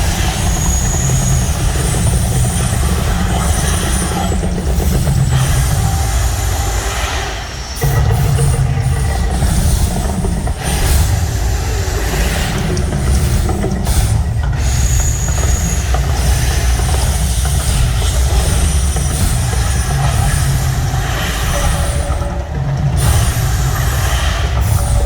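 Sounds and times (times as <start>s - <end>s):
hissing roar: 0.0s - 25.0s.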